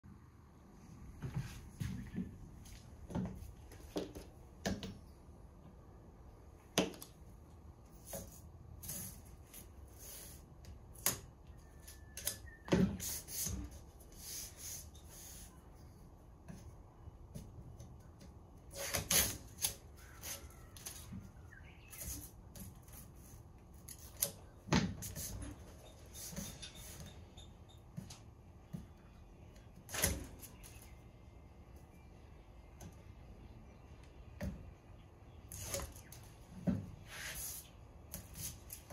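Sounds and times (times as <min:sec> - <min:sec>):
faint steady hum: 0:00.1 - 0:38.9.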